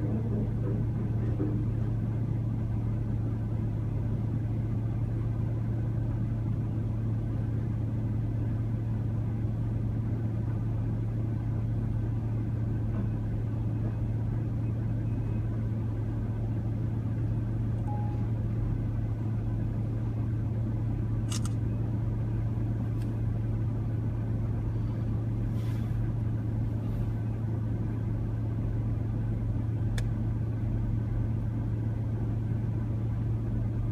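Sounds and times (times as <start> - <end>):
engine droning: 0.0 - 33.9.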